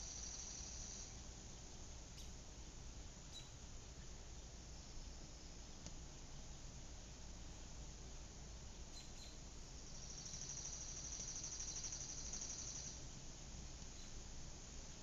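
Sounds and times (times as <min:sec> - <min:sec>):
faint low background rumble: 0:00.0 - 0:15.0.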